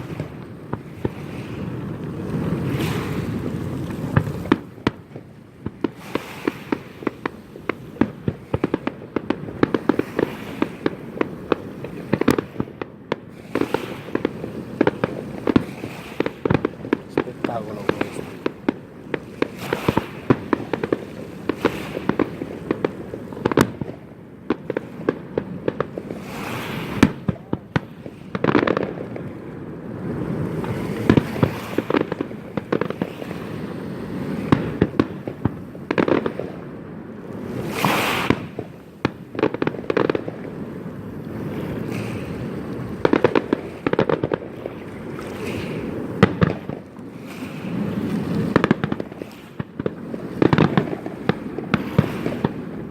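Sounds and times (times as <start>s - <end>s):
fireworks banging: 0.0s - 52.9s
fireworks crackling: 0.0s - 52.9s.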